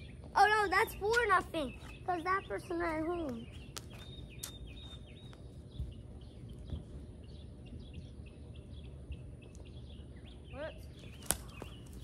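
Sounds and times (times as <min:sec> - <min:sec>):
bird chirping: 0:00.0 - 0:12.0
low outdoor rumble: 0:00.0 - 0:12.0.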